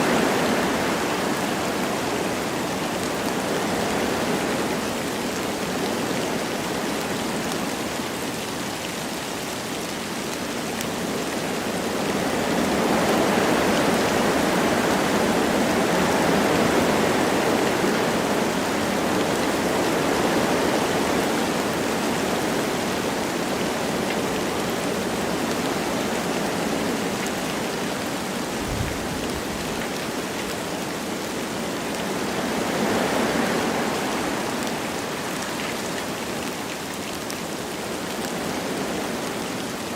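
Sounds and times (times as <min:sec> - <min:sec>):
light rain falling: 0:00.0 - 0:39.9
wind through trees: 0:00.0 - 0:39.9.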